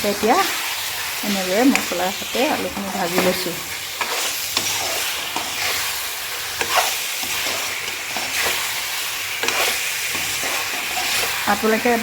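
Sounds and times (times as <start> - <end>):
potatoes sizzling in a pan: 0.0 - 12.0
spatula scraping a pan: 0.3 - 11.9.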